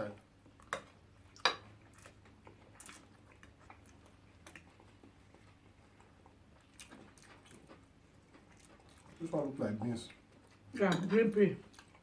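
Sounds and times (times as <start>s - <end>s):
quiet chewing: 0.2s - 12.0s.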